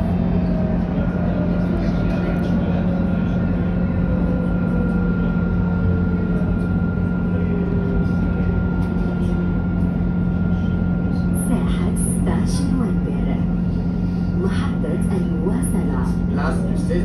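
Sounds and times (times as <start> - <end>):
tram interior rumble: 0.0 - 17.0.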